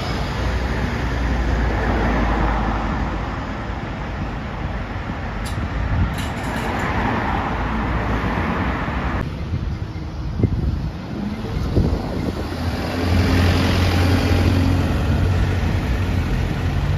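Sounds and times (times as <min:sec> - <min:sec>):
bus engine rumble: 0:00.0 - 0:16.9
car traffic noise: 0:00.0 - 0:16.9.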